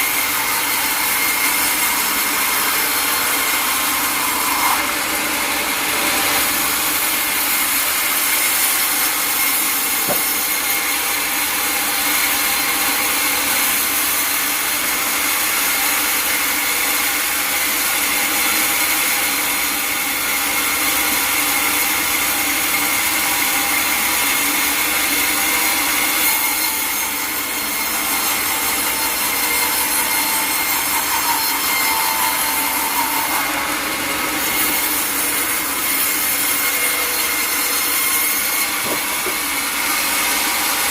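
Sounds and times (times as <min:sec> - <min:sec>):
saw blade cutting log: 0:00.0 - 0:40.9.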